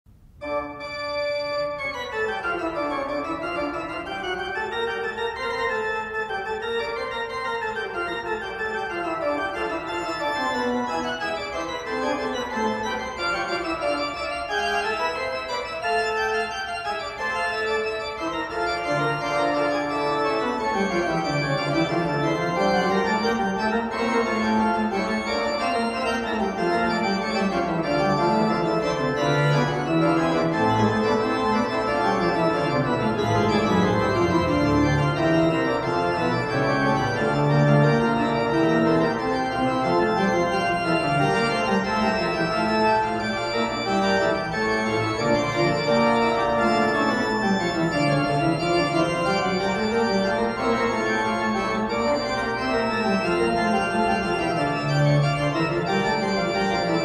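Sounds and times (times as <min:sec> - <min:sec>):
organ-like keyboard tones: 0:00.4 - 0:57.0.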